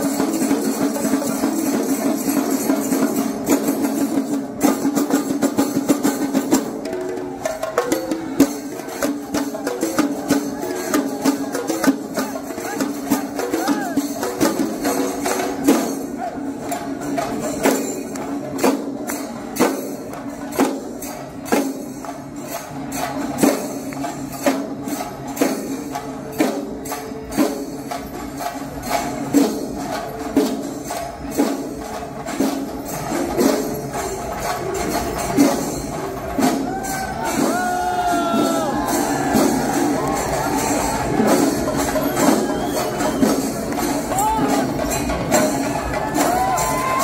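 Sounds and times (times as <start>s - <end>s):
percussion music with cymbals: 0.0s - 47.0s.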